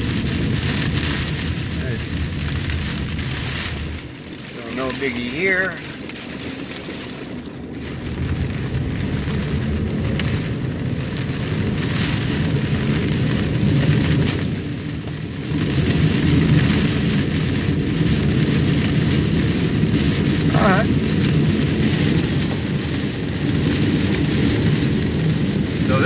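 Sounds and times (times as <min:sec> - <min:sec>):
heavy rain on car roof: 0:00.0 - 0:26.0
tyres rumbling on wet road: 0:00.0 - 0:26.0.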